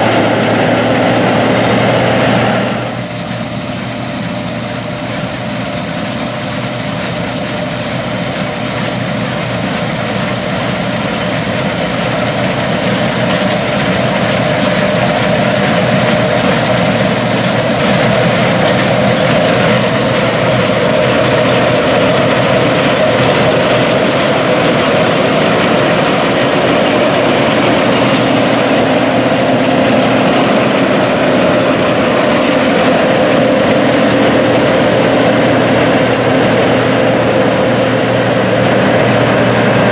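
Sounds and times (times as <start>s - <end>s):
combine harvester engine and threshing: 0.0s - 39.9s.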